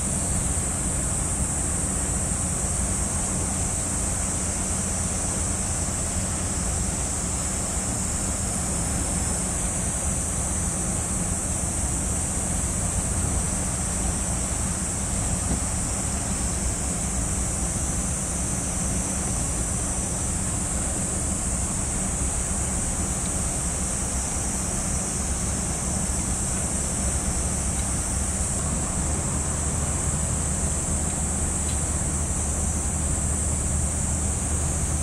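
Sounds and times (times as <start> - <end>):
high-pitched hiss: 0.0 - 35.0
wind: 0.0 - 35.0.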